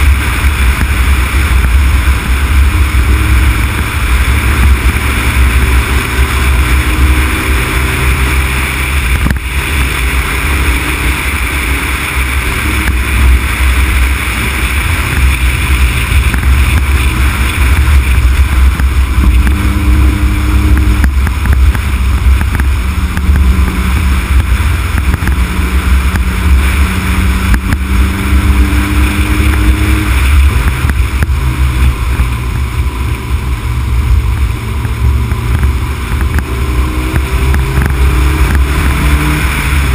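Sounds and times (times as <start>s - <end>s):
faint car engine: 0.0s - 39.9s
road rumble: 0.0s - 39.9s.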